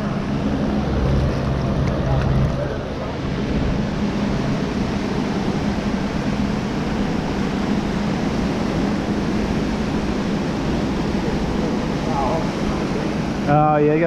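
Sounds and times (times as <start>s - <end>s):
ocean surf: 0.0s - 14.0s
wind rumbling on microphone: 0.0s - 14.0s.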